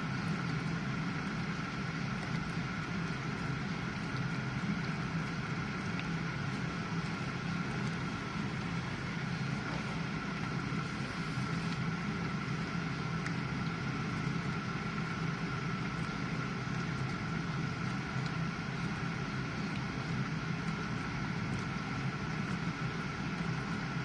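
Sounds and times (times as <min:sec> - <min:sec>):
dishwasher pump hum: 0:00.0 - 0:24.0
faint whine: 0:00.0 - 0:24.0.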